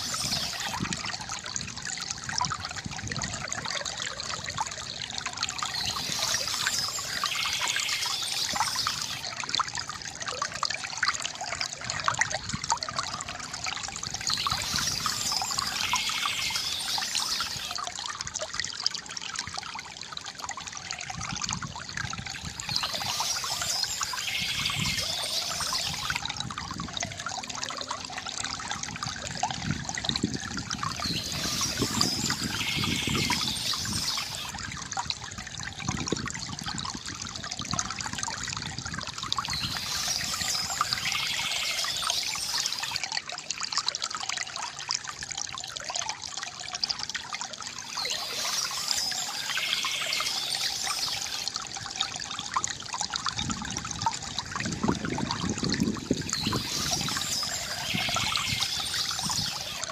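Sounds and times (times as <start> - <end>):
water trickling from fountain: 0.0 - 59.9.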